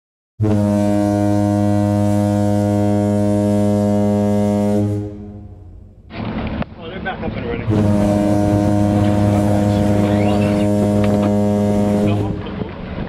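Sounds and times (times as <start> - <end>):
long low horn blast: 0.4 - 6.1, 7.6 - 12.7.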